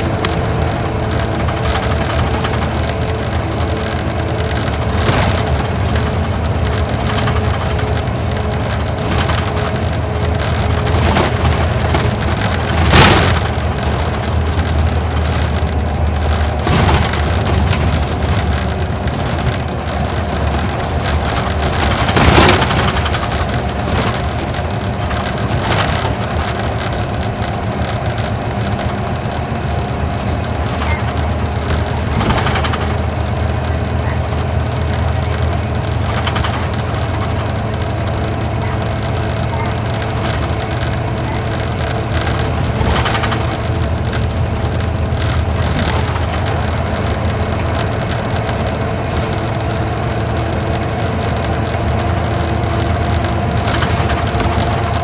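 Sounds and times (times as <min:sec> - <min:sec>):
diesel engine running: 0:00.0 - 0:55.0
interior rattles: 0:00.0 - 0:55.0
road and tyre noise: 0:00.0 - 0:55.0.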